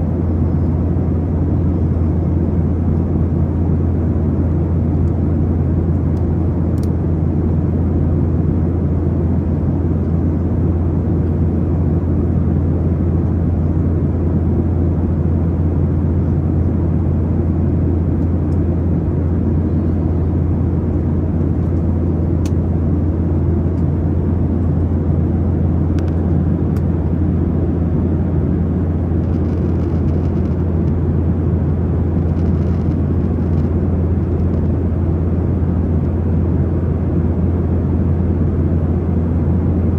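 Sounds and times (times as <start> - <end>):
airplane droning: 0.0 - 39.9.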